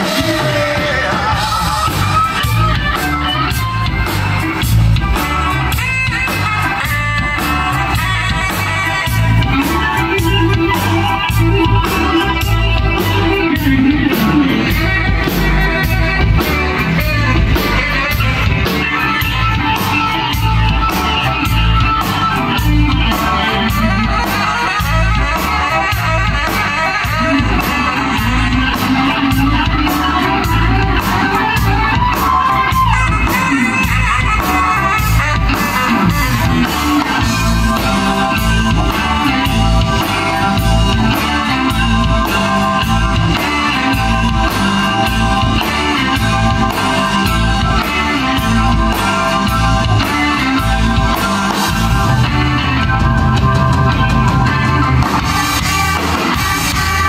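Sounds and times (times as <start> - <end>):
electric guitar: 0.0 - 57.0
keyboard: 0.0 - 57.0
saxophone lead: 0.0 - 57.0
steady drum-kit beat: 0.0 - 57.0.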